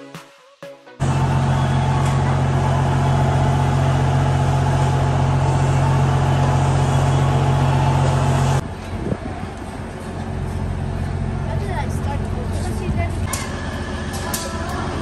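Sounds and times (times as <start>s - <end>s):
train engine humming: 1.0s - 15.0s.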